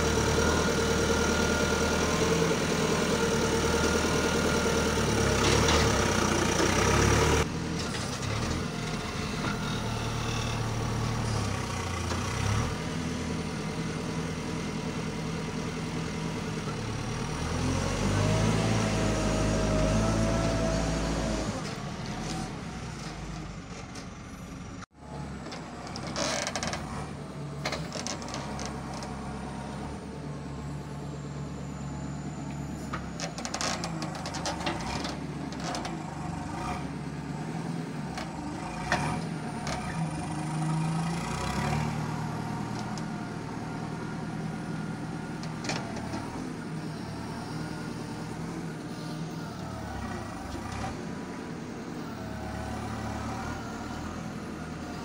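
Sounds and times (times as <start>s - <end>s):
diesel engine under working load: 0.0s - 55.0s.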